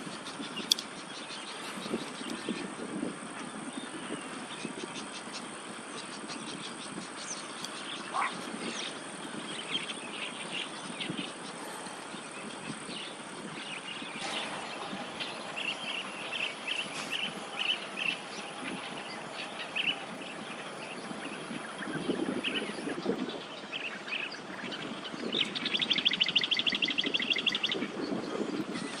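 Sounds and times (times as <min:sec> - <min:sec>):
small birds chirping: 0:00.0 - 0:29.0
steady high-pitched hiss: 0:00.0 - 0:29.0.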